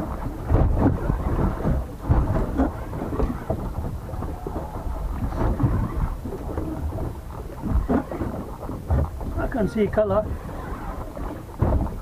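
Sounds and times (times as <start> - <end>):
water sloshing against hull: 0.0 - 12.0
wind buffeting microphone: 0.0 - 12.0.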